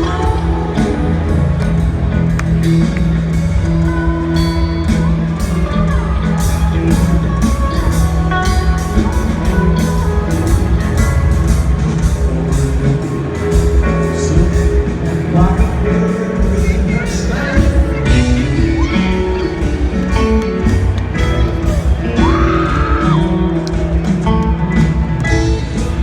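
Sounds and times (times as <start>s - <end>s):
bass guitar: 0.0s - 26.0s
drum kit with cymbal beat: 0.0s - 26.0s.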